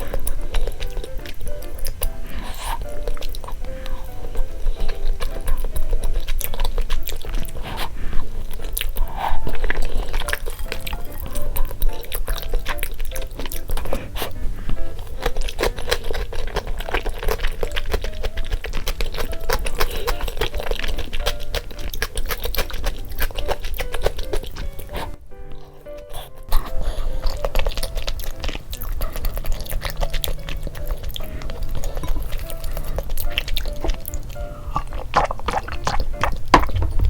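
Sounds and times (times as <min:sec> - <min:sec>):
light background music: 0:00.0 - 0:37.0
person chewing: 0:00.0 - 0:37.0.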